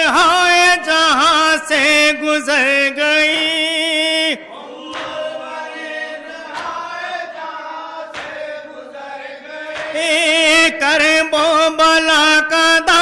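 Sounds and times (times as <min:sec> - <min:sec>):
lead reciter chanting: 0:00.0 - 0:13.0
men chanting in unison: 0:00.0 - 0:13.0.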